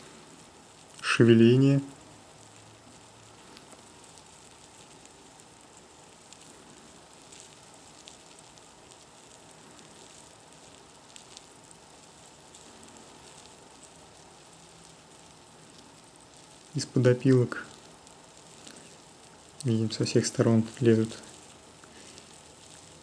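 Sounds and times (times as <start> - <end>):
larvae rustling in wood shavings: 0.0 - 23.0
small ticks: 0.3 - 1.1, 1.9 - 23.0.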